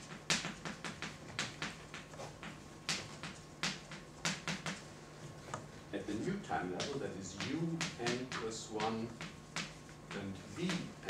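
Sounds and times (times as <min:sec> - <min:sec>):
chalk tapping on blackboard: 0:00.0 - 0:04.9, 0:05.5 - 0:11.0.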